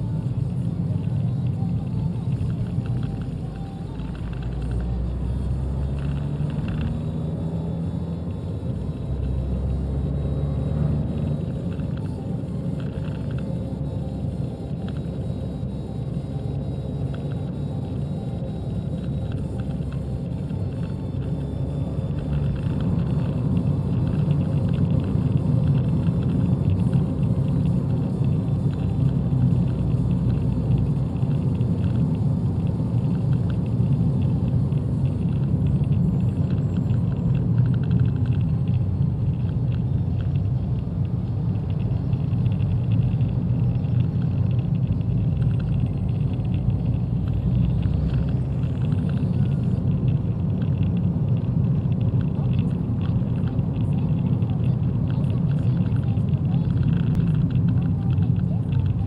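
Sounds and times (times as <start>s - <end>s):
car engine from inside cabin: 0.0s - 59.0s.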